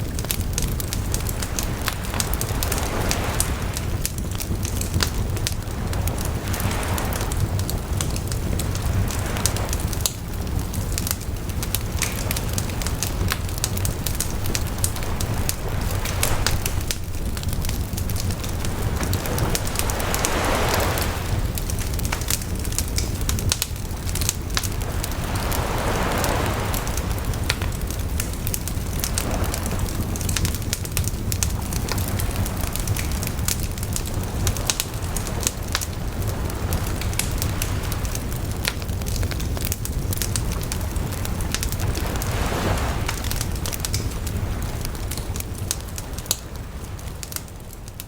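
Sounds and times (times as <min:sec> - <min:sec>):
steady low rumble: 0:00.0 - 0:46.8
campfire crackling and popping: 0:00.0 - 0:48.0
sea waves washing in: 0:00.0 - 0:48.0.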